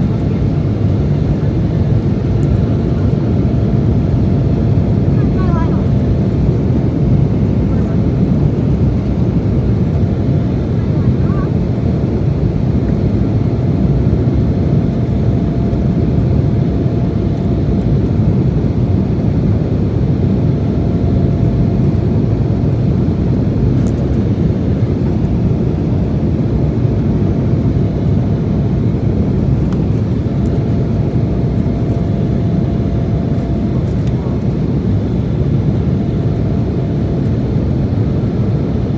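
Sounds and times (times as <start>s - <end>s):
airliner cabin engine rush: 0.0s - 38.9s.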